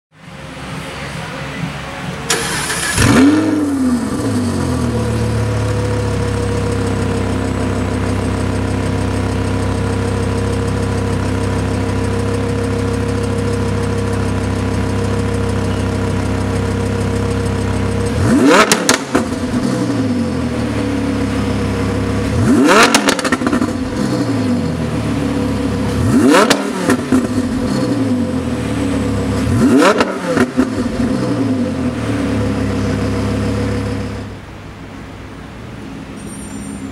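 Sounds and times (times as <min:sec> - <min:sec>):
sports car engine revving and idling: 0:02.3 - 0:34.5.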